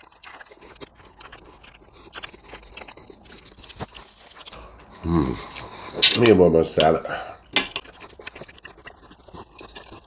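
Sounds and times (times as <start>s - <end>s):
eating from a plate: 0.0s - 10.0s.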